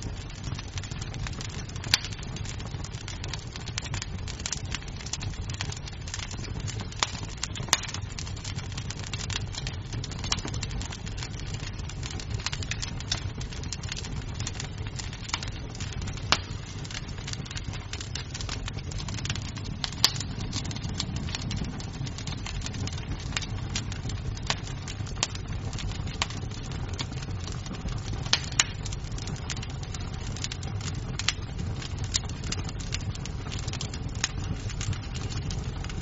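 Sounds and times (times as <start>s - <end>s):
burning wood popping: 0.0s - 36.0s
flames rumbling: 0.0s - 36.0s
wood fire crackling: 0.0s - 36.0s.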